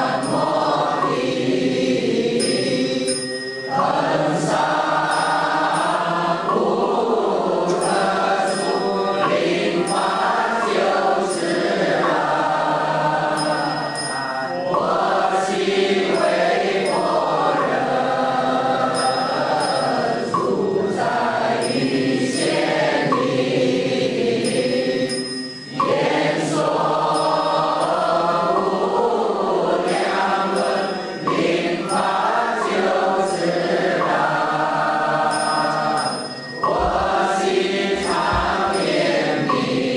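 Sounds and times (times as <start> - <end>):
group chanting set to music: 0.0 - 39.9.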